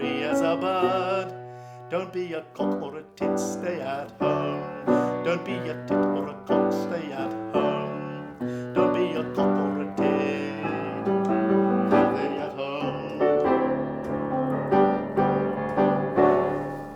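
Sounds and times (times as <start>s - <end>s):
piano chords: 0.0s - 16.9s.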